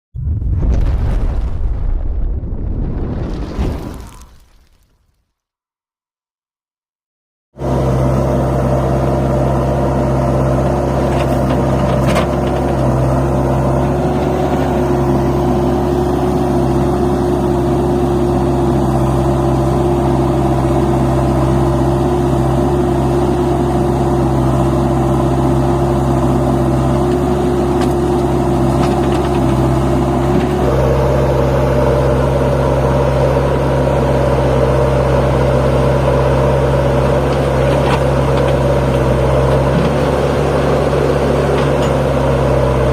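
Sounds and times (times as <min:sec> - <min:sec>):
tractor diesel engine running: 0:07.6 - 0:42.9.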